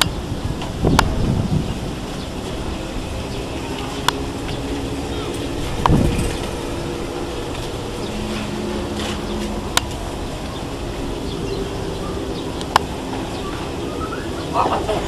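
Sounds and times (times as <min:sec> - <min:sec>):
outdoor hum and hiss: 0:00.0 - 0:15.0.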